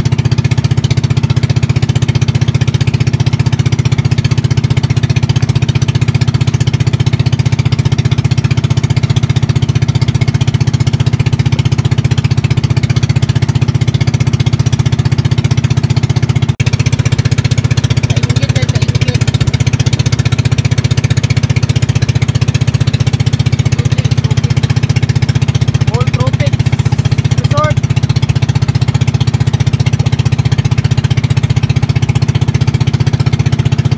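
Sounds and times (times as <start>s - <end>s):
boat engine chugging: 0.0s - 33.9s.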